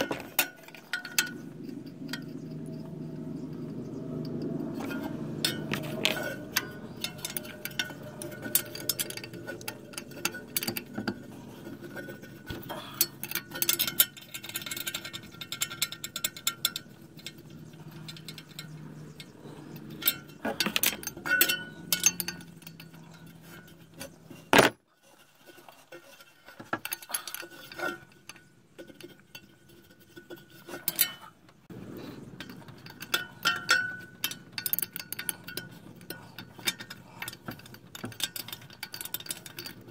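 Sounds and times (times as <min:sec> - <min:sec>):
wrench clinking on nuts: 0:00.0 - 0:24.7, 0:32.0 - 0:39.9.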